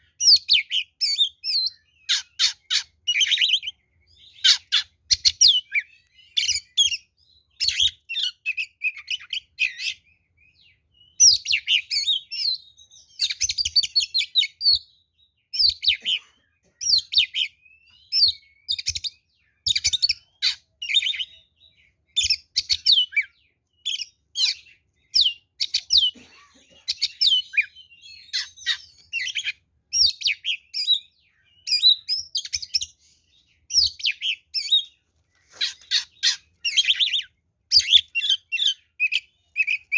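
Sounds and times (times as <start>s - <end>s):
bird singing chirps and whistles: 0.1s - 16.0s, 16.8s - 26.1s, 27.0s - 35.0s, 35.6s - 39.9s.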